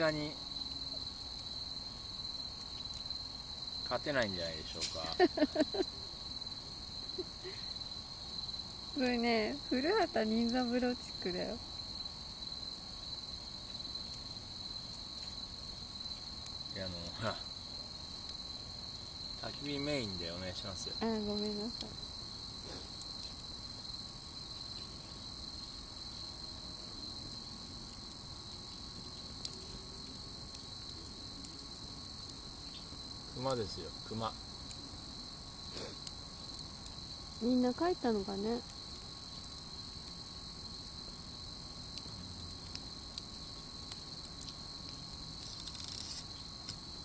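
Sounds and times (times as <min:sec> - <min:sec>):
campfire crackling: 0:00.0 - 0:47.0
crickets chirring: 0:00.0 - 0:47.0.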